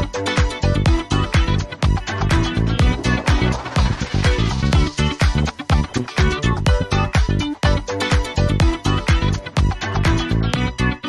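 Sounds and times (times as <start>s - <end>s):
electronic dance music: 0.0s - 10.9s.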